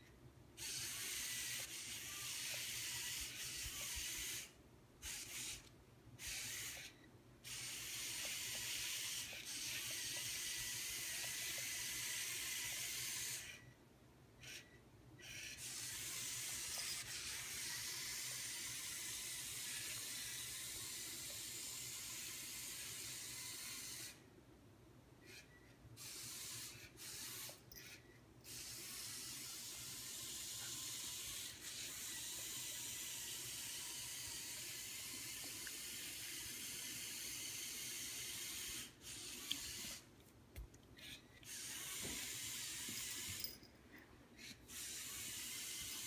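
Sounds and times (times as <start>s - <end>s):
toy motors whirring: 0.6s - 13.7s, 14.4s - 24.3s, 25.2s - 40.1s, 40.9s - 46.0s.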